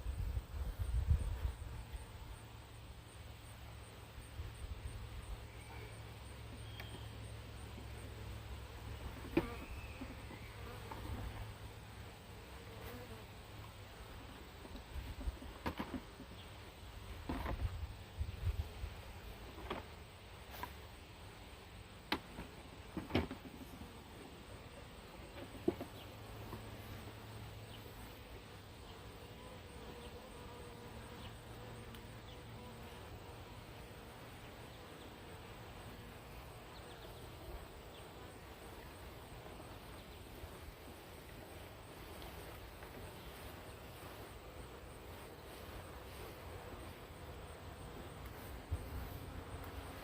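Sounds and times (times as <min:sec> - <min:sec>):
bee swarm buzzing: 0:00.0 - 0:15.4, 0:23.6 - 0:50.0.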